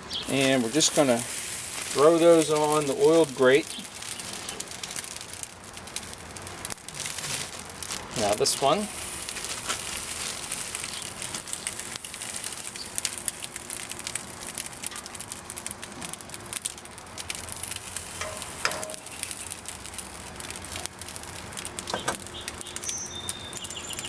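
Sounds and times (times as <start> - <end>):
noodles sizzling on a grill: 0.0 - 24.0
crackling pops: 0.2 - 24.0.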